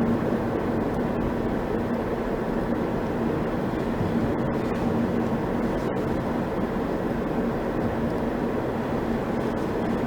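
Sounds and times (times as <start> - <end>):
car road noise: 0.0 - 10.0.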